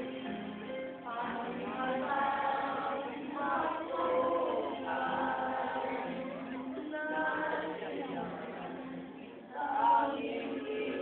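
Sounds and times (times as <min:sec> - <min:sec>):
girls singing in chorus: 0:00.0 - 0:11.0.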